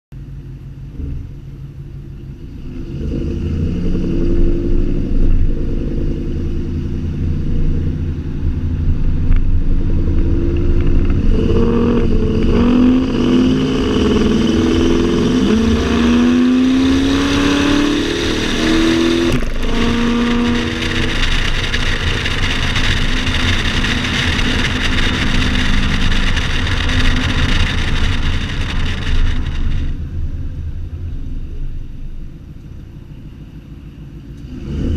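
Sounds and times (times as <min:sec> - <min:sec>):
pickup engine revving: 0:02.4 - 0:31.0.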